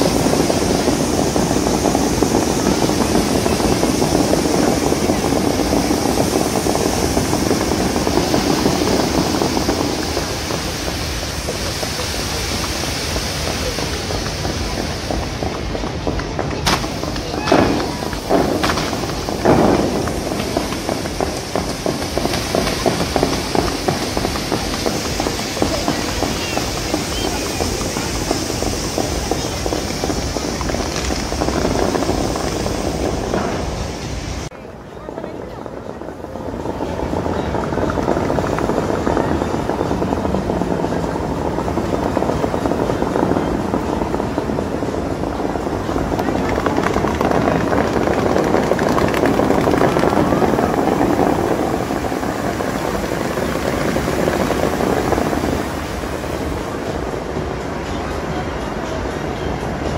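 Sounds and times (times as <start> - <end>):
fountain water rushing and splashing: 0.0 - 59.9.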